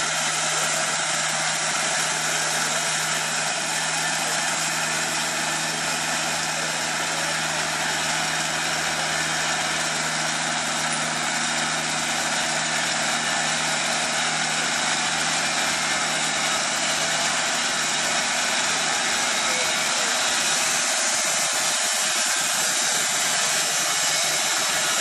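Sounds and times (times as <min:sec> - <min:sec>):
bandsaw blade sawing wood: 0:00.0 - 0:25.0.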